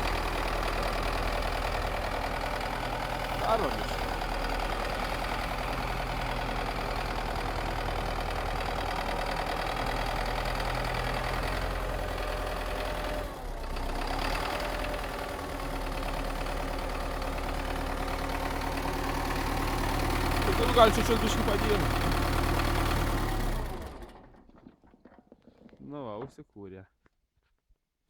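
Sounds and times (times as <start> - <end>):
tractor engine cold start: 0.0 - 25.8.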